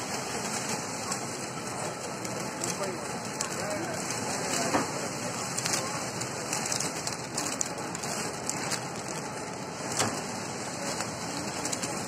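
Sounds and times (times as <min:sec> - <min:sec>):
packaging machine running: 0:00.0 - 0:12.0.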